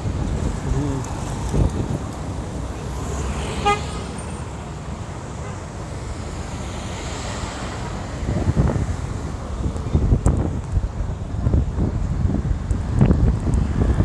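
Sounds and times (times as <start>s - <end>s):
city street traffic: 0.0s - 14.0s
wind buffeting microphone: 0.0s - 14.0s.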